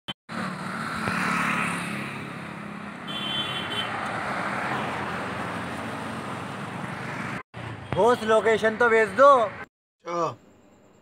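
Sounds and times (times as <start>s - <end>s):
vehicles passing by: 0.3s - 9.7s.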